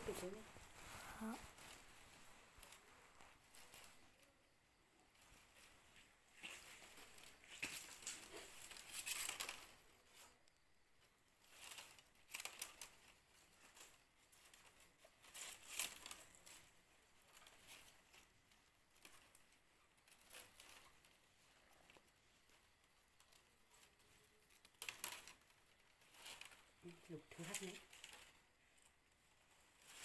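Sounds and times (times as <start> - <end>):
stiff strips rustling and clicking: 0.1 - 4.3, 5.0 - 30.0.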